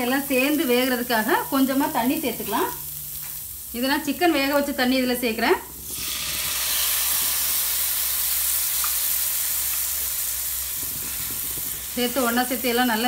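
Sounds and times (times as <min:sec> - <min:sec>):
water sizzling in a hot pan: 0:00.0 - 0:13.0.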